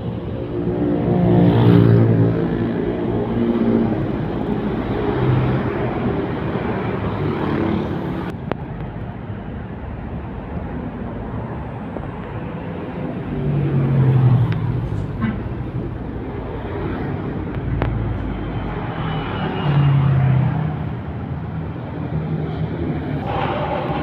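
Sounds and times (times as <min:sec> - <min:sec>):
tyre and traffic noise: 0:00.0 - 0:24.0
diesel truck engine: 0:02.0 - 0:24.0.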